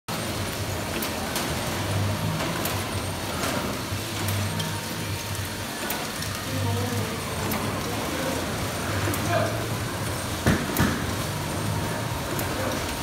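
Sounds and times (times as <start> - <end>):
low machine hum: 0.1 - 13.0.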